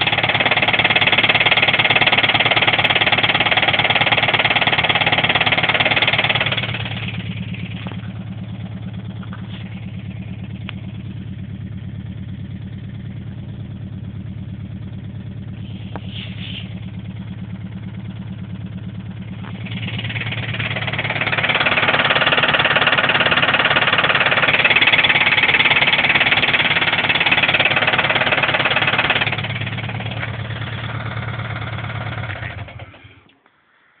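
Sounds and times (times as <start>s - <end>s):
car engine running with knock: 0.0s - 33.4s.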